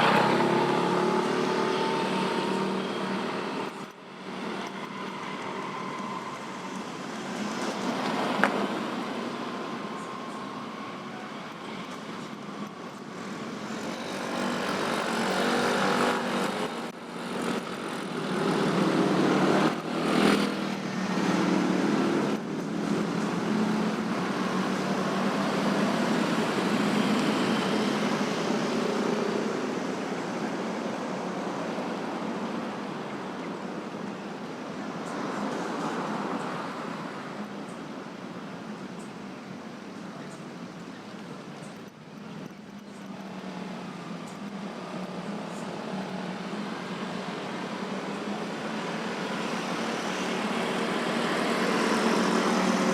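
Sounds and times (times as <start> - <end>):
motorbikes passing: 0.0 - 38.7, 40.0 - 52.9
cars and trucks passing: 0.0 - 52.9.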